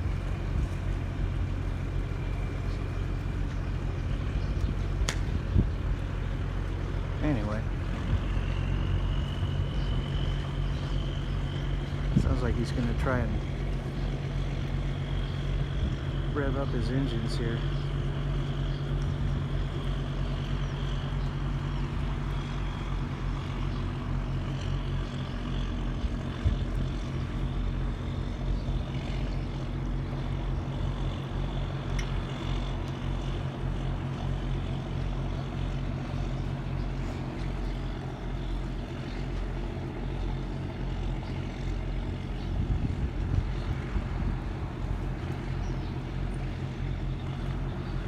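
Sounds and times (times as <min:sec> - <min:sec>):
diesel engines pulsing drone: 0:00.0 - 0:48.0.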